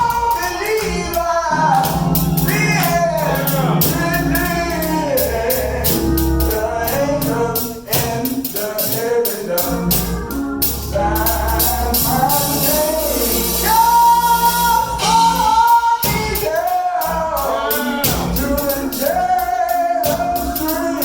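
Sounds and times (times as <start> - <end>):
gospel singing with band: 0.0 - 21.0.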